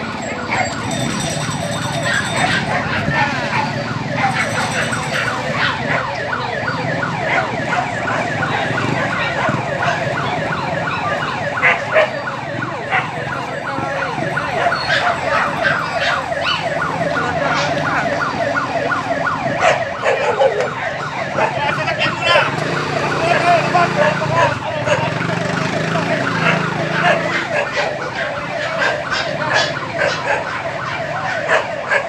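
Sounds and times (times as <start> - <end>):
sirens yelping: 0.0 - 32.0.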